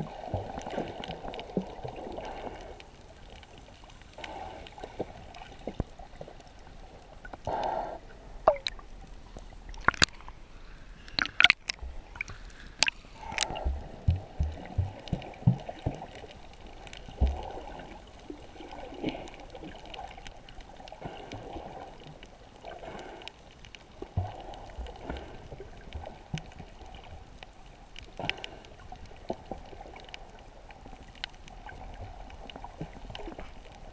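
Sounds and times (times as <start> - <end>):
muffled water sloshing underwater: 0.0 - 33.9.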